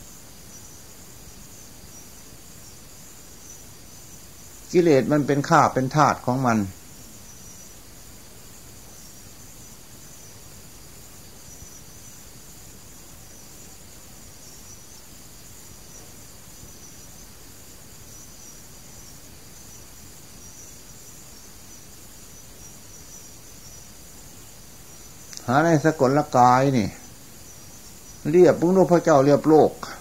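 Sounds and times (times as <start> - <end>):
crickets chirping: 0.0 - 30.0
old recording hiss: 0.0 - 30.0.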